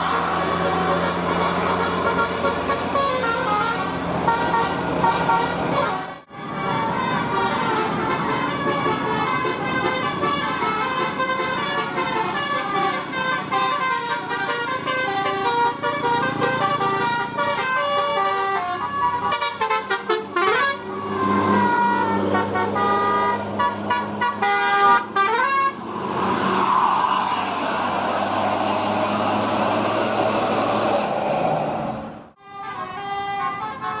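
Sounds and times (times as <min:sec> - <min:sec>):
bus air horns playing a tune: 0:00.0 - 0:25.9, 0:32.4 - 0:34.0.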